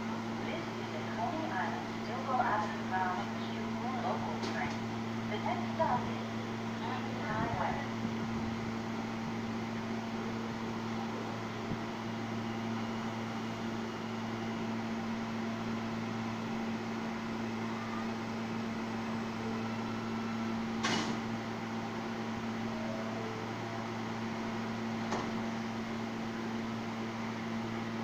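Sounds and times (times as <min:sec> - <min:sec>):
subway train humming in station: 0:00.0 - 0:28.0.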